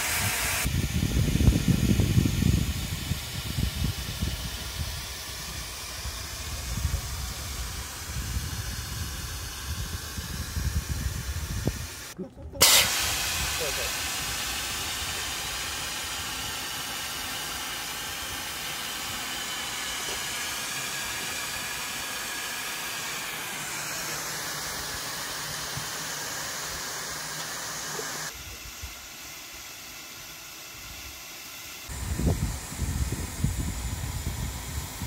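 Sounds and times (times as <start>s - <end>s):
gas venting hiss: 0.0s - 35.0s.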